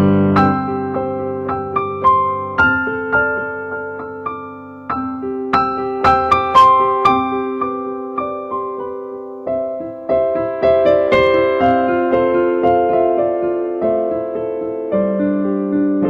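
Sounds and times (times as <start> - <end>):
slow soft piano music: 0.0 - 16.0.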